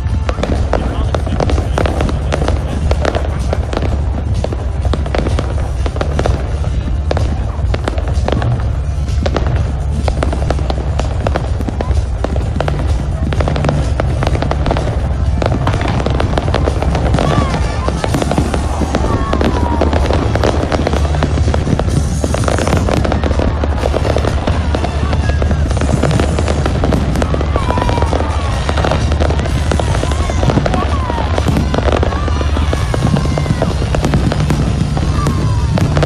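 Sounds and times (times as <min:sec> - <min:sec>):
fireworks crackling and popping: 0:00.0 - 0:36.0
low rumble: 0:00.0 - 0:36.0.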